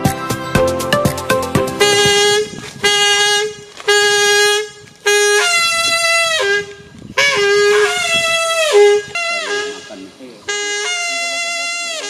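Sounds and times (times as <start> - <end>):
loud horn-like notes: 1.6 - 12.0.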